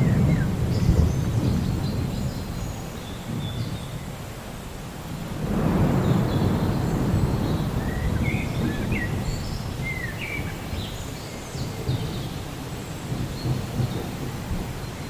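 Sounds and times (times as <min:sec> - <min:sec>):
thunder rumbling: 0:00.0 - 0:04.0, 0:05.3 - 0:12.4, 0:13.0 - 0:15.0.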